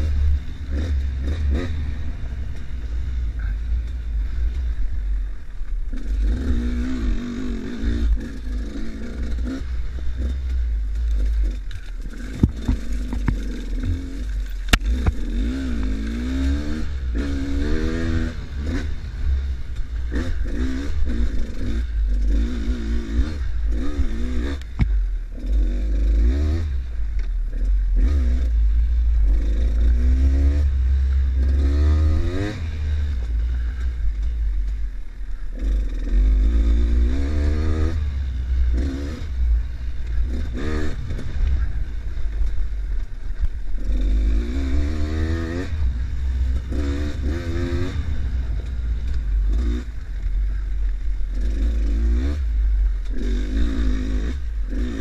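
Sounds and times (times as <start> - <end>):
low engine rumble: 0.0 - 25.6, 26.7 - 37.2, 38.0 - 55.0
motorcycle engine revving: 0.0 - 55.0.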